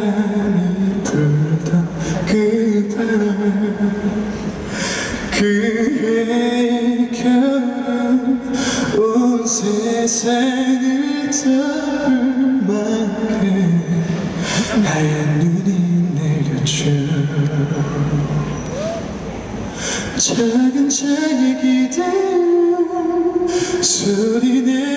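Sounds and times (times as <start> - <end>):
man singing into microphone: 0.0 - 18.8, 20.0 - 24.9.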